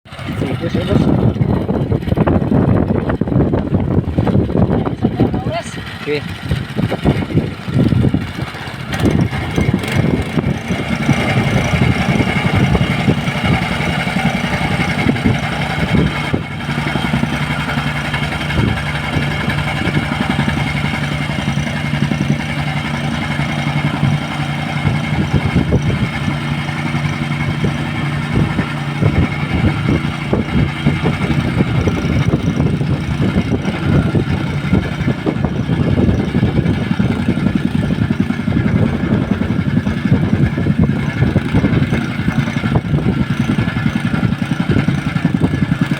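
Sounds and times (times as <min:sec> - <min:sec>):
engine running steadily: 0:00.1 - 0:45.9.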